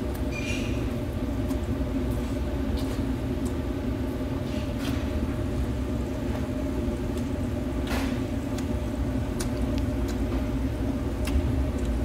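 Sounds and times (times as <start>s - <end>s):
extraction fan hum and rumble: 0.0s - 12.0s.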